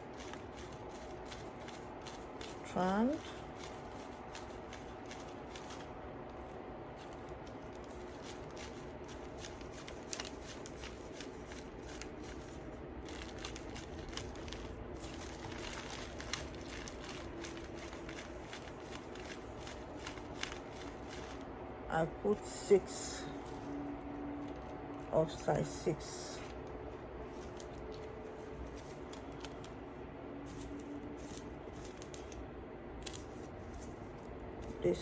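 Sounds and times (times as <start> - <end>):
low background noise: 0.0 - 35.0.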